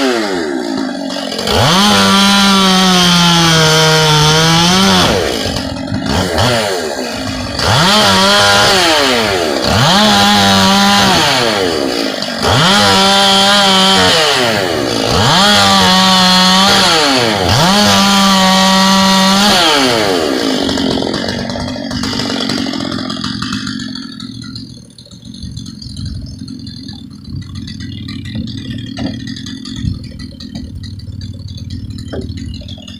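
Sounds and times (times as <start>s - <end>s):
chainsaw idling: 0.0s - 32.9s
chainsaw revving and cutting wood: 0.0s - 32.9s.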